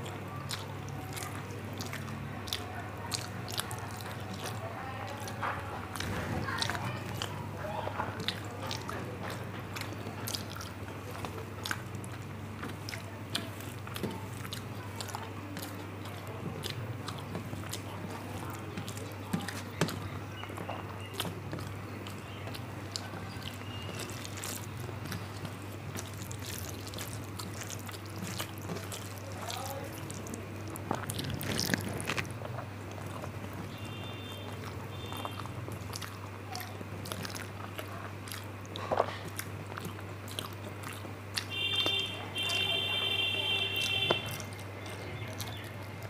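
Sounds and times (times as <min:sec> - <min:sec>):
person chewing and lip-smacking: 0:00.0 - 0:46.0.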